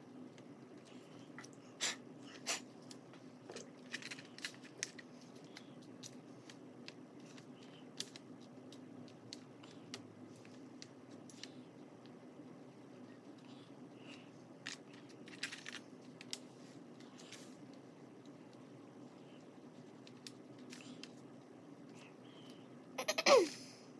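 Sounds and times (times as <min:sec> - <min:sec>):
faint low hum: 0:00.0 - 0:23.9.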